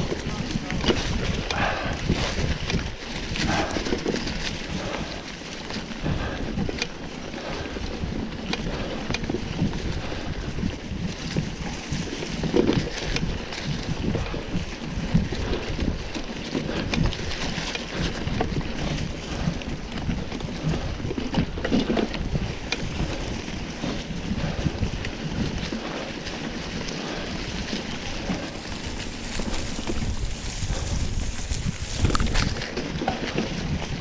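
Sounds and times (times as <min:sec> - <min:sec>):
tyre rumble: 0:00.0 - 0:06.5, 0:07.4 - 0:34.0
bike rattling and knocking: 0:00.0 - 0:34.0
wind buffeting microphone: 0:00.0 - 0:34.0.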